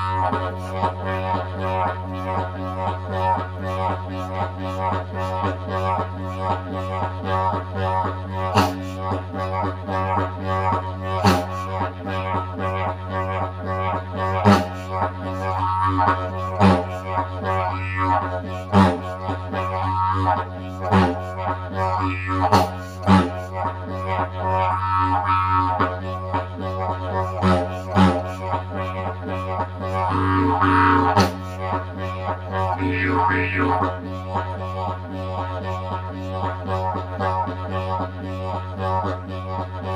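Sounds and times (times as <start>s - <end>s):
didgeridoo drone: 0.0s - 39.9s.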